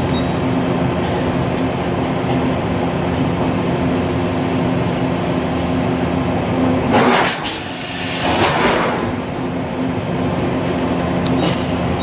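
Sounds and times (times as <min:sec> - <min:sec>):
machine steady mechanical hum: 0:00.0 - 0:12.0.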